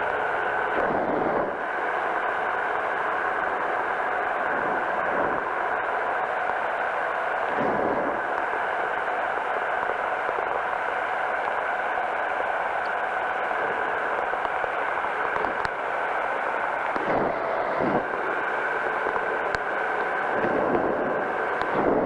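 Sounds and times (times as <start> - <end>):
engine and propeller running: 0.0 - 22.0.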